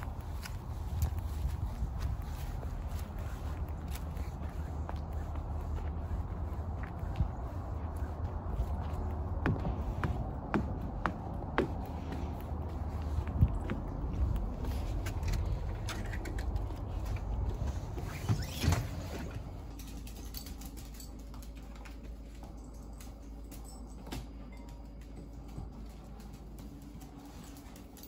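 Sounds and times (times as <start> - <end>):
footsteps: 0.0 - 28.0.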